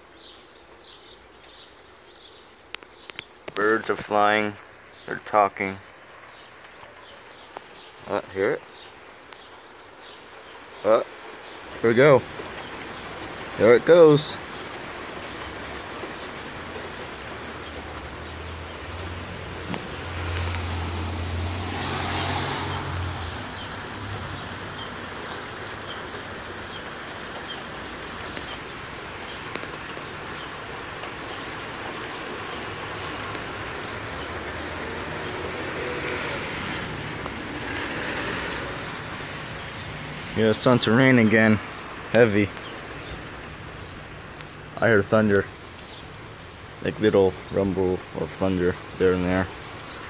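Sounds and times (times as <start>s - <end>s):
steady rain falling: 0.0s - 50.0s.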